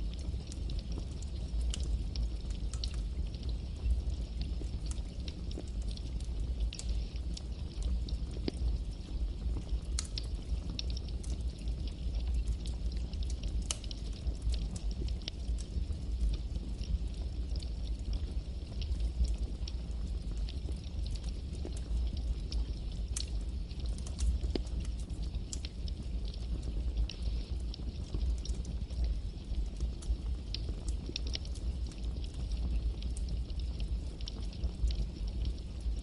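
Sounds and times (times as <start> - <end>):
campfire crackling and popping: 0.0 - 36.0
low rumble of flames: 0.0 - 36.0.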